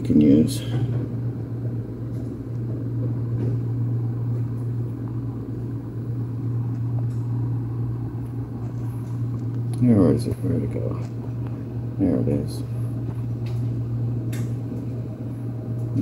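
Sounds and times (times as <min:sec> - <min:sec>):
low hum: 0:00.0 - 0:16.0
low rumbling noise: 0:00.0 - 0:16.0.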